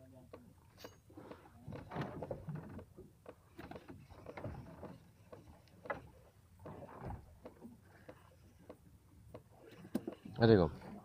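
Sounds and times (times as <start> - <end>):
water slapping against boat hull: 0.0 - 11.0
faint knocks and clicks: 0.2 - 10.4.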